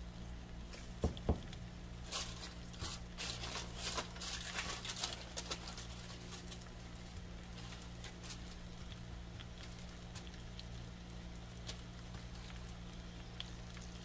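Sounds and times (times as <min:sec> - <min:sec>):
steady low hum: 0:00.0 - 0:14.0
aluminium foil crinkling: 0:00.2 - 0:14.0.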